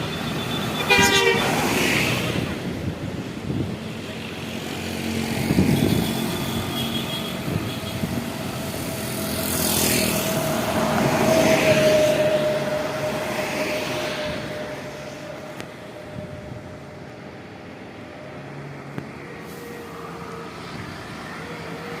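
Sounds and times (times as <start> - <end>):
buses passing: 0.0 - 22.0.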